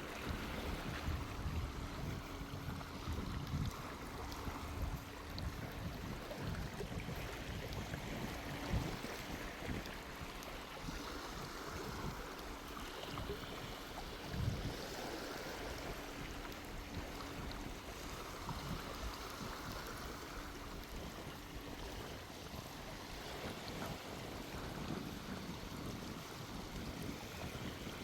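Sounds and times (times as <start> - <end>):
sea breeze: 0.0 - 28.0
waves washing onto sand: 0.0 - 28.0.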